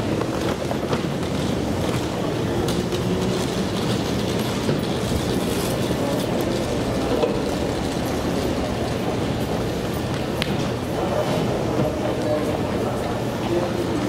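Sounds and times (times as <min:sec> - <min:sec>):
electric train pulling out: 0:00.0 - 0:14.0.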